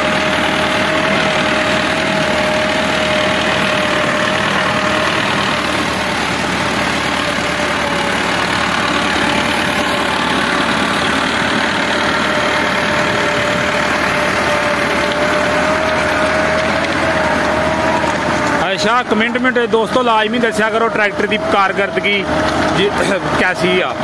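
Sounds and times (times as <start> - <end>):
steady whine: 0.0 - 24.0
tractor diesel engine under load: 0.0 - 24.0.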